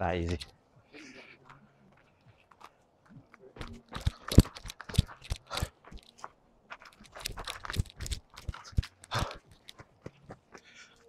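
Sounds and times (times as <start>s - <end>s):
footsteps crunching on trail: 0.3s - 11.0s.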